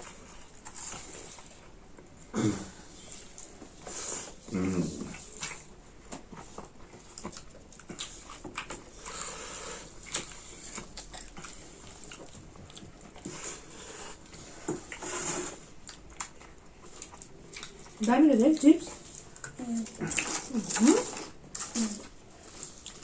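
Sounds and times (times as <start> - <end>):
chewing and crunching: 0.0 - 23.0.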